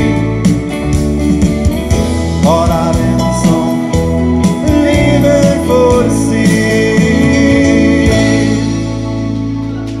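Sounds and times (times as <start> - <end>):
bass guitar: 0.0 - 10.0
steady drum beat: 0.0 - 10.0.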